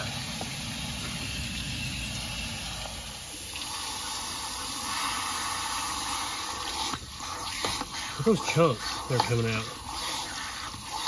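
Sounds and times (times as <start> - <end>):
water running and splashing: 0.0 - 11.0.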